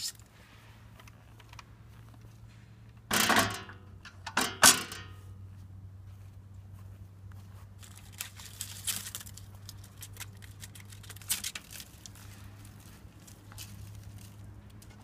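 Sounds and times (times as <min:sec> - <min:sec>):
rustling handling noises: 0:00.0 - 0:02.9, 0:05.0 - 0:15.0
low electrical hum: 0:00.0 - 0:15.0.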